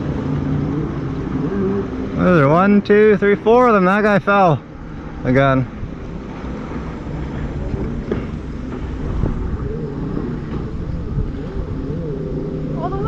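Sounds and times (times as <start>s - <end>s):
jet ski engines: 0.0s - 13.0s
wind rumbling on microphone: 0.0s - 13.0s.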